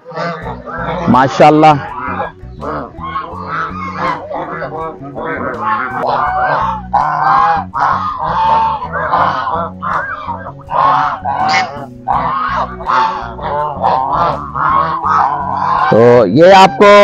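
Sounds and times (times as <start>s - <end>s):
waterfowl calling: 0.0s - 17.0s.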